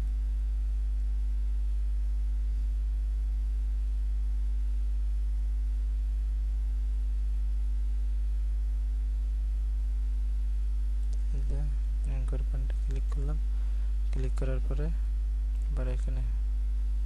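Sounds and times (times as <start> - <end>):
low electrical mains hum: 0.0 - 17.0.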